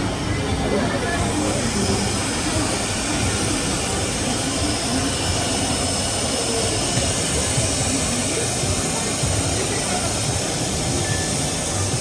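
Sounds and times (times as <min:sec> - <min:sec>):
faint indistinct voices: 0:00.0 - 0:12.0
steady background noise: 0:00.0 - 0:12.0.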